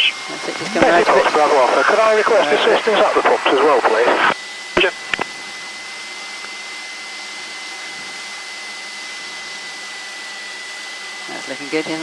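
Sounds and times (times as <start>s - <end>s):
aircraft engine and airflow rushing: 0.0s - 12.0s
high-pitched whine: 0.0s - 12.0s.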